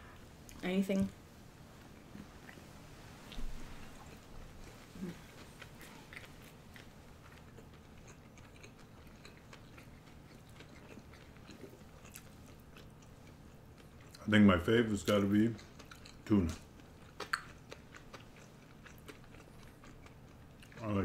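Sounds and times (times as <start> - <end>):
chewing and mouth sounds: 1.9 - 14.3, 15.0 - 21.0.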